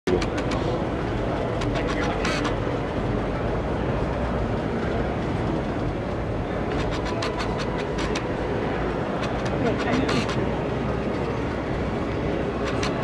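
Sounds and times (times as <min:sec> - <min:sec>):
low rumble of crowd noise: 0:00.1 - 0:13.0.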